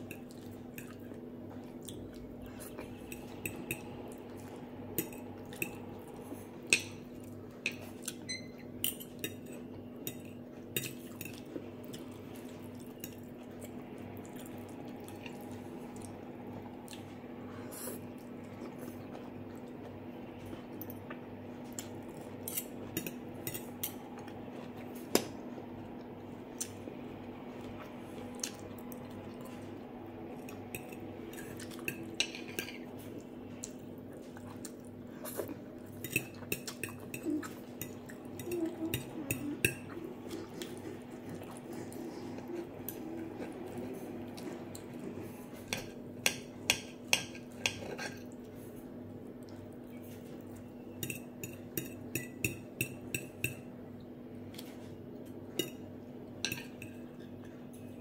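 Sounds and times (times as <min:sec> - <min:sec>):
soft chewing: 0:00.0 - 0:58.0
steady low hum: 0:00.0 - 0:58.0.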